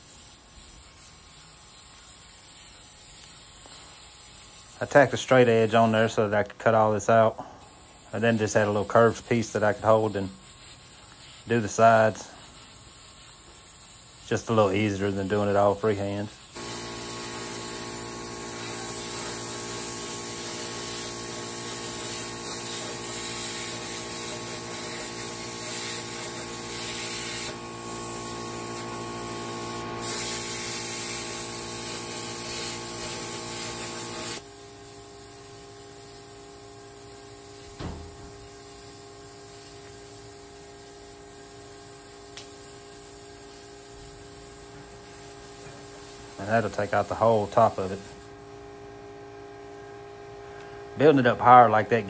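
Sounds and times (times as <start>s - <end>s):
plasma cutter hissing: 0.0s - 6.2s, 7.6s - 34.5s, 35.2s - 48.3s.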